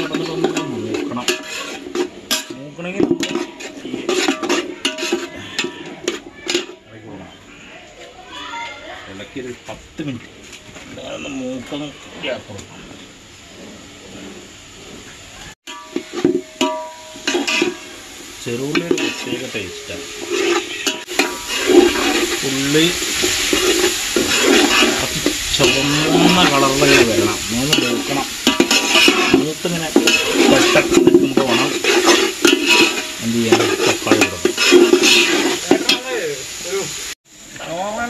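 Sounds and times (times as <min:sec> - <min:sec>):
meat sizzling in a pan: 0:00.0 - 0:07.5, 0:10.8 - 0:38.0
scraping against a pan: 0:00.0 - 0:07.7, 0:10.2 - 0:36.6.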